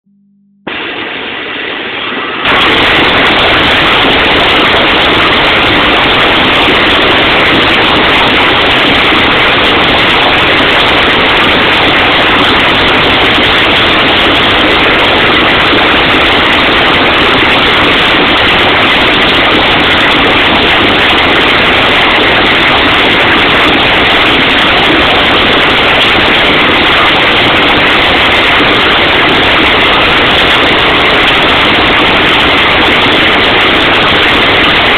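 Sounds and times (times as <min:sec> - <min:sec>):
distorted machine noise: 0:00.0 - 0:34.9.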